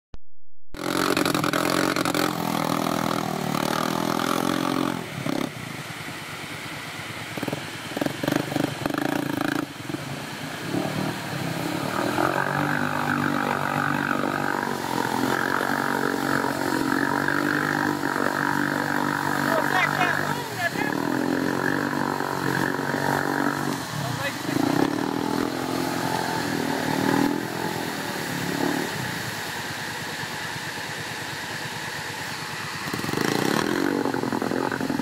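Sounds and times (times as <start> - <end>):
atv engine revving: 0.8 - 35.0
vehicle churning through mud: 0.8 - 35.0.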